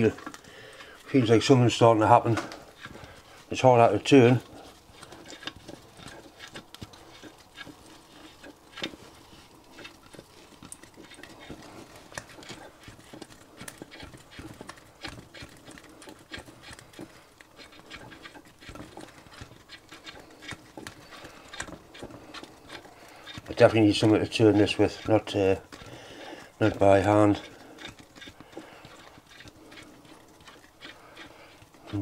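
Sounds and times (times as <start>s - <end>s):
faint clicking and knocking of pump: 0.0s - 32.0s.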